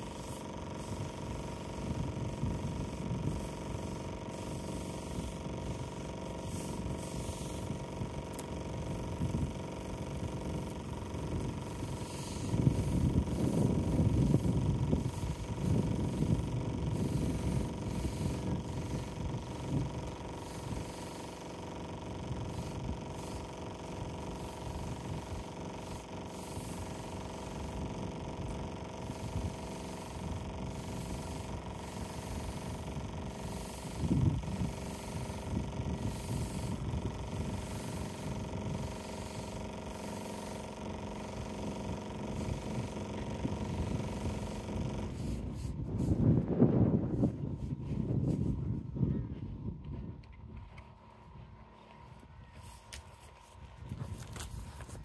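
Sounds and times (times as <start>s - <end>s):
water spraying against wall: 0.0s - 46.1s
pressure washer motor humming: 0.0s - 46.6s.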